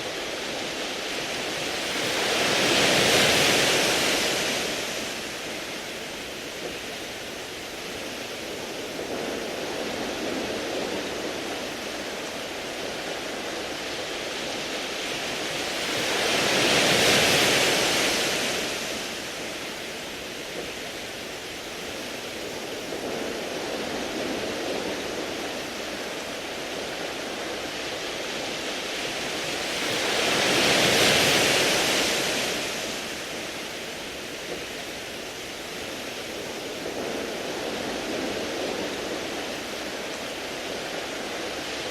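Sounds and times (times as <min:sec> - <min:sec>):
waves washing onto pebble beach: 0:00.0 - 0:41.9.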